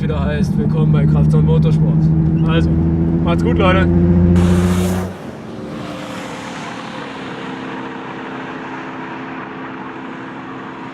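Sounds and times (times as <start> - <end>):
steady engine drone: 0.0 - 10.9.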